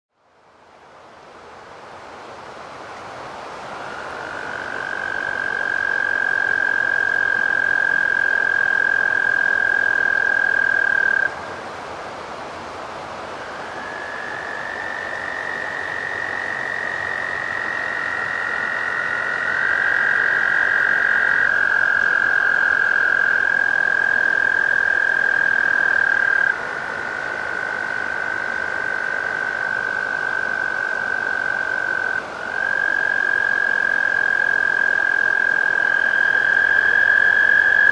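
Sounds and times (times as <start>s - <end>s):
toads trilling: 4.1s - 11.3s, 13.8s - 37.9s.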